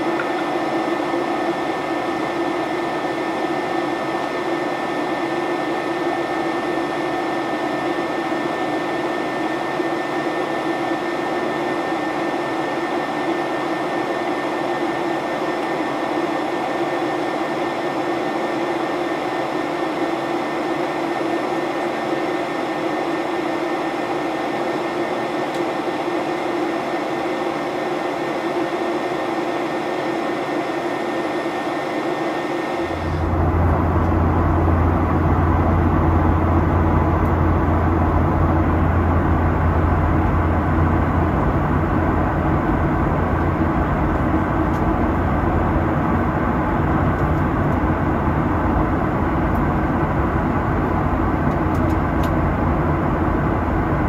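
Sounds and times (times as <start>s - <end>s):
jet engine and airflow rush: 0.0s - 54.0s.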